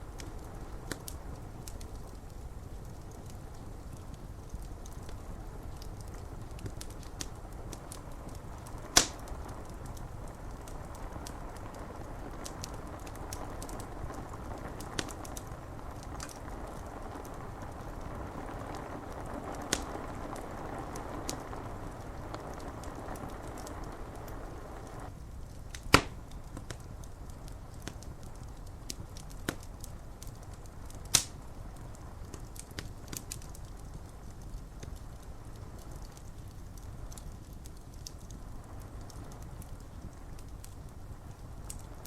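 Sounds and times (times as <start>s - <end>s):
rain on window glass: 0.0s - 42.0s
wood fire crackling and popping: 0.0s - 42.0s.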